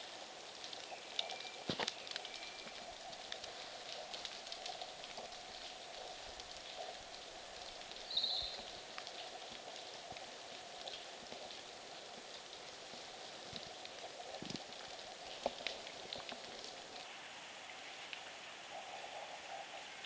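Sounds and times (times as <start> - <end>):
snowmelt dripping from branches: 0.0 - 20.0.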